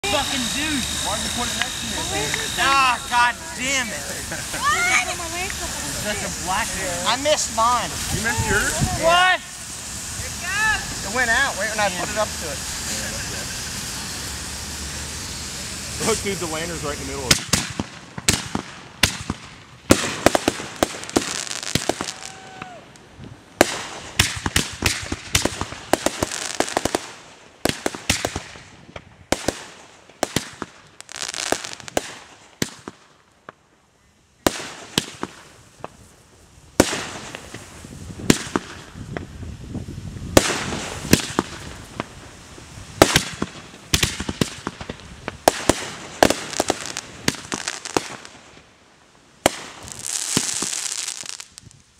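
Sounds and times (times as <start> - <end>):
firecrackers banging and crackling: 0.0 - 33.7, 34.4 - 51.9.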